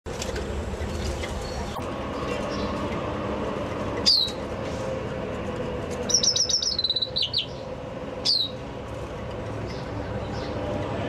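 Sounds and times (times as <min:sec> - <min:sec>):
chaffinch song: 0:00.4 - 0:11.0.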